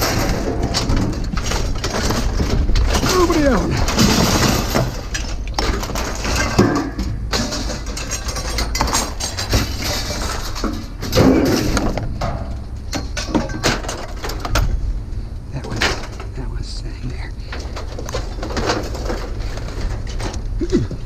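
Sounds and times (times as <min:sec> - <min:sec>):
scrap metal clanking: 0:00.0 - 0:14.8, 0:17.4 - 0:20.9
steady low rumble: 0:00.0 - 0:21.0.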